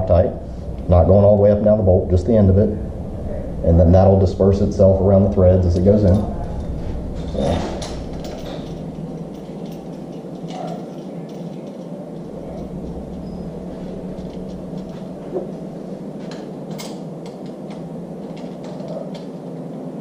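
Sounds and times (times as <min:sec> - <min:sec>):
low workshop hum: 0:00.0 - 0:20.0.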